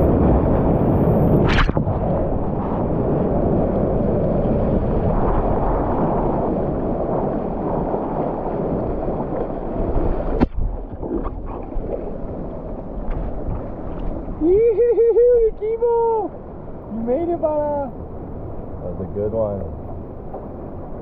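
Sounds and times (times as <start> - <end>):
water rushing and splashing: 0.0 - 21.0
wind on microphone: 0.0 - 21.0.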